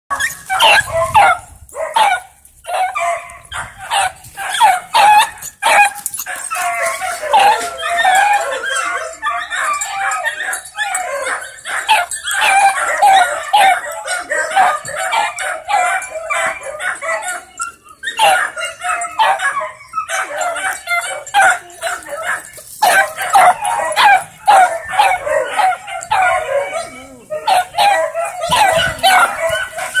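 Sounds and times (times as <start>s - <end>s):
dogs barking: 0.1s - 30.0s
puppy yipping: 0.1s - 30.0s.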